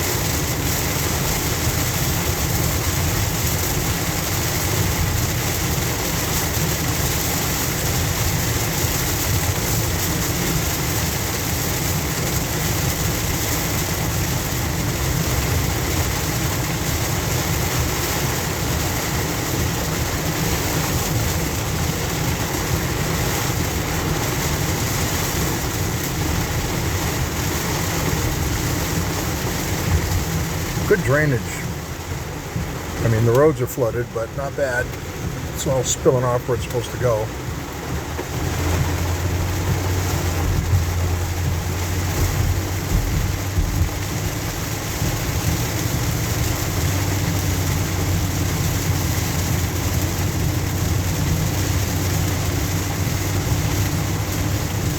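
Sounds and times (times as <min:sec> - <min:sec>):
heavy rain on a car: 0:00.0 - 0:54.9
tyres on flooded road: 0:00.0 - 0:54.9.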